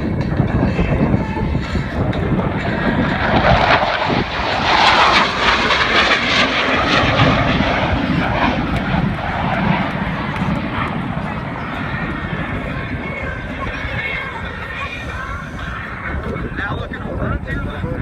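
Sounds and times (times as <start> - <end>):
jet fighter roaring past: 0.0 - 17.2.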